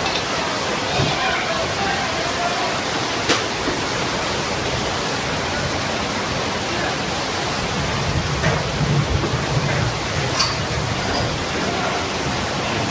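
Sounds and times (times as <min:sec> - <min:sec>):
floodwater rushing: 0:00.0 - 0:12.9.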